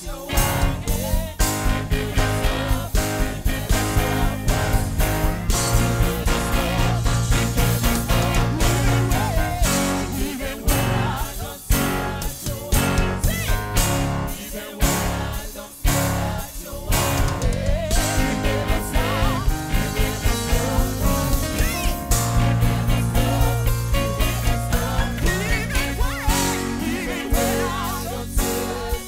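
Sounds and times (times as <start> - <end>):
people singing: 0.0 - 29.0
worship band playing: 0.0 - 29.0.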